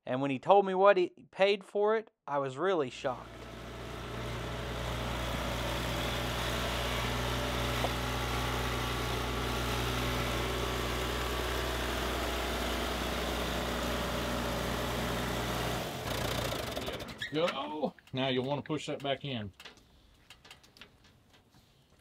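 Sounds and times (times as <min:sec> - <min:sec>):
tractor engine running: 0:03.2 - 0:21.2.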